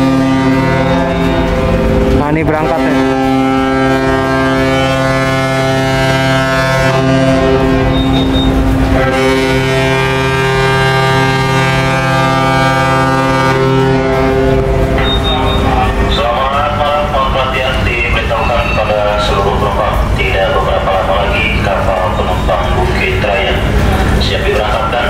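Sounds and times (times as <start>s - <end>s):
ship's horn blasts: 0.0s - 25.0s.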